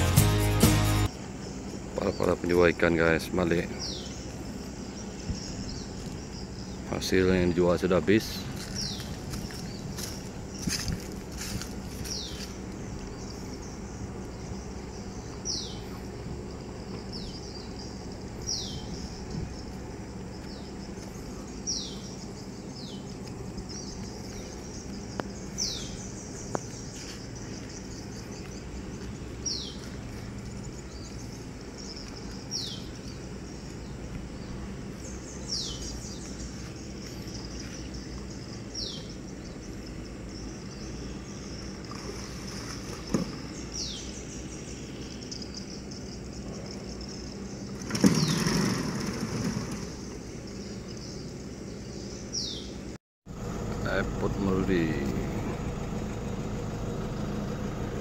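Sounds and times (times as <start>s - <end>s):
steady low hum: 0.0s - 48.0s, 48.8s - 58.0s.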